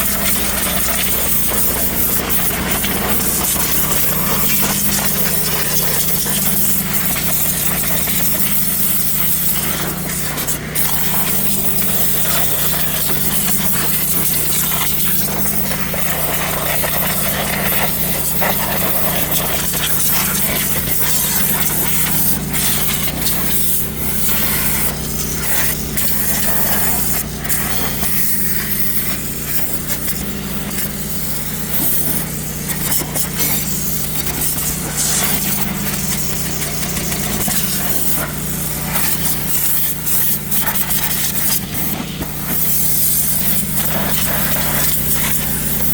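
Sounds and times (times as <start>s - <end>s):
pressure washer motor humming: 0.0s - 45.9s
water jet hissing: 0.0s - 45.9s.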